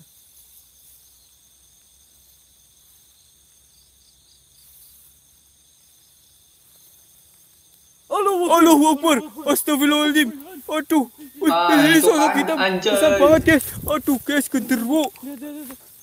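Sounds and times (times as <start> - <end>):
crickets trilling: 0.0 - 16.0
insect chirps: 0.0 - 16.0.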